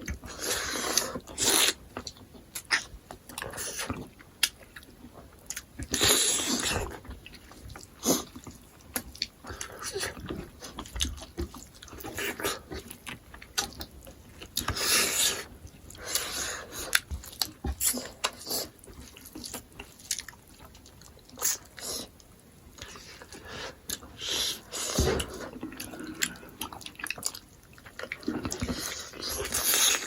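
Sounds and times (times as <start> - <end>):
people chewing and smacking: 0.0 - 30.0.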